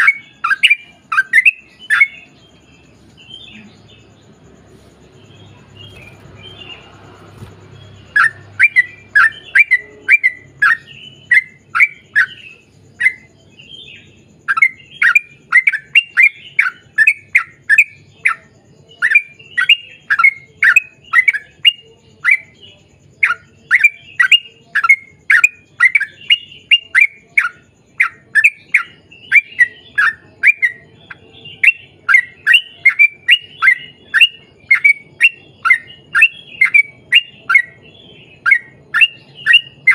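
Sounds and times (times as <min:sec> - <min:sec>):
bird singing bubbly chirps: 0:00.0 - 0:04.4, 0:05.2 - 0:39.9.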